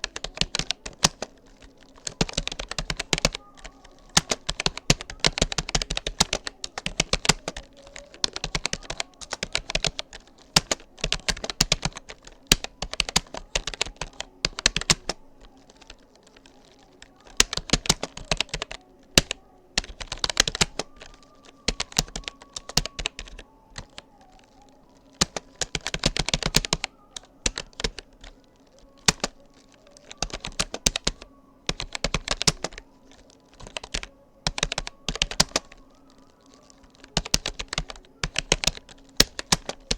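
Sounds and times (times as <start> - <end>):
keyboard typing clicks: 0.0 - 39.9.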